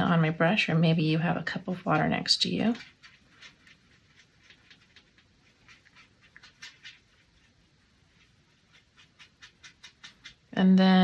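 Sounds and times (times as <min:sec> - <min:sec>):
paintbrush scratching on palette: 0:00.0 - 0:10.8.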